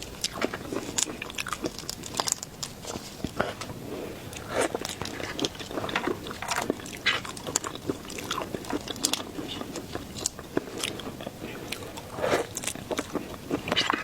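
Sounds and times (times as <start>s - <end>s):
crunchy bites and wet chewing: 0.0s - 14.0s.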